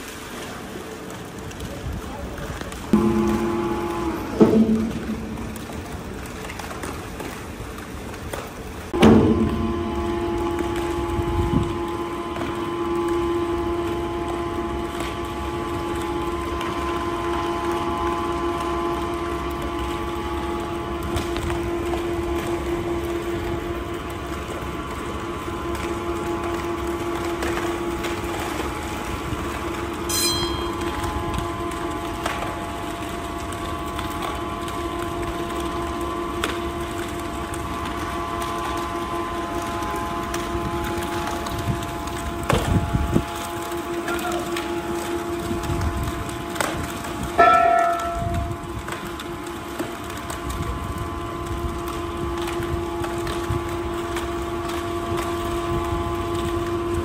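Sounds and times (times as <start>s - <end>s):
crane hoist machine hum: 0.0s - 57.0s
steady hoist whine: 2.8s - 6.6s, 8.8s - 57.0s.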